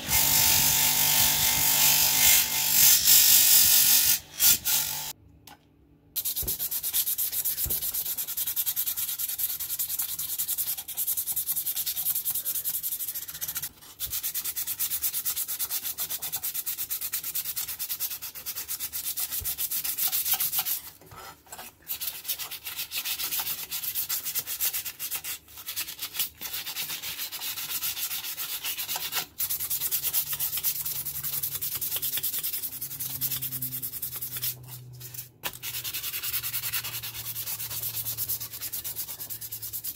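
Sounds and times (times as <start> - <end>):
sandpaper rasping on metal blade: 6.2 - 39.9.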